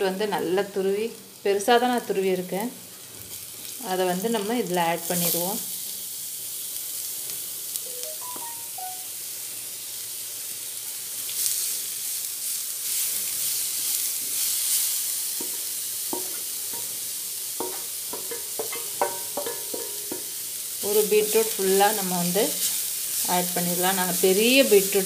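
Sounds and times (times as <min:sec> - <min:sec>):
beetroot sizzling in hot oil: 0:00.0 - 0:25.0.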